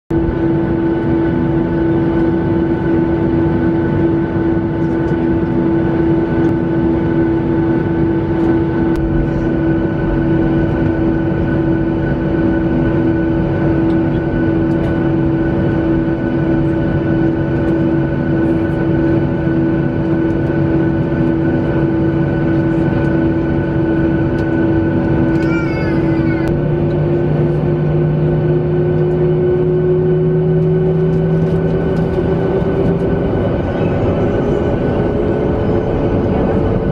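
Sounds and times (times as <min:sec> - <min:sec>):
constant engine tones: 0:00.1 - 0:36.9
jet engines humming: 0:00.1 - 0:36.9.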